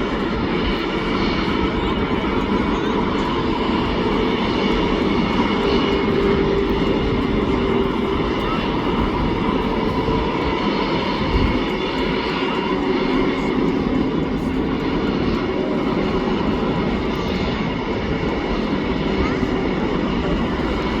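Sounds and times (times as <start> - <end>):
high engine whine: 0.0 - 21.0
jet engines roaring: 0.0 - 21.0.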